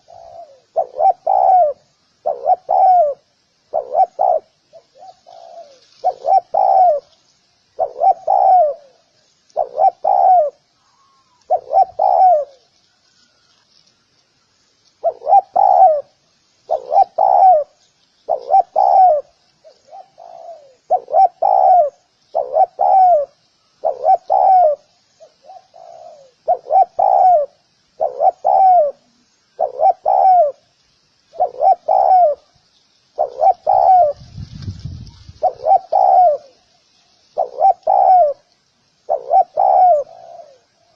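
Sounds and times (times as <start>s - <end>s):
dove cooing: 0.0s - 12.8s, 15.0s - 30.7s, 31.3s - 32.6s, 33.2s - 40.9s
small birds chirping: 0.0s - 40.9s.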